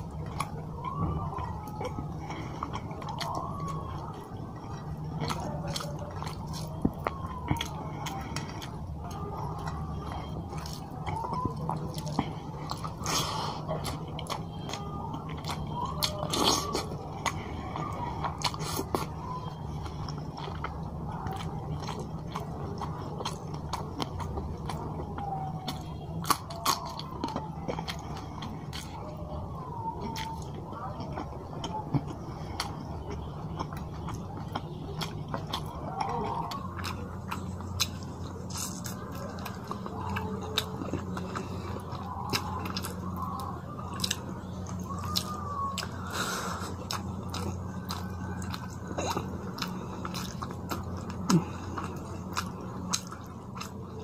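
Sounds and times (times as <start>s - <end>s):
steady low hum: 0.0s - 54.0s
wet chewing mouth sounds: 0.0s - 54.0s.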